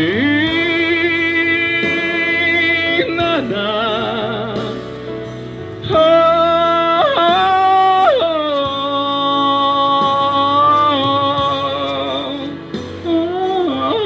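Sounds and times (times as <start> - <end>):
instrumental accompaniment: 0.0 - 14.0
person singing wordless notes: 0.0 - 14.0.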